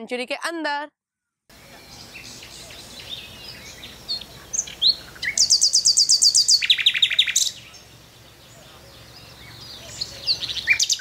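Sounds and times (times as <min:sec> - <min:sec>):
bird rapid trill: 0:01.5 - 0:11.0
outdoor hiss: 0:01.5 - 0:11.0
songbirds chirping: 0:01.5 - 0:11.0.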